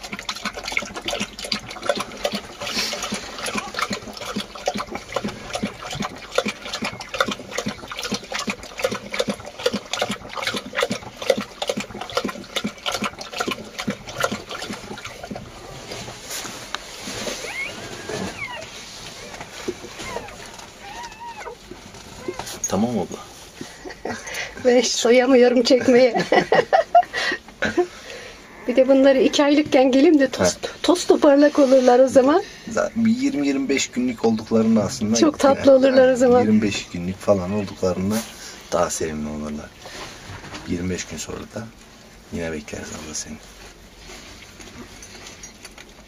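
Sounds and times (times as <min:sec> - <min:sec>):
dog lapping from plastic bowl: 0:00.0 - 0:25.2, 0:28.9 - 0:46.0.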